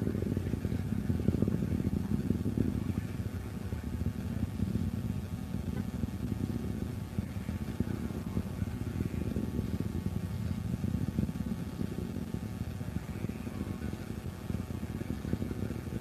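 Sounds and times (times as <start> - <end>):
distant rocket launch rumble: 0.0 - 16.0.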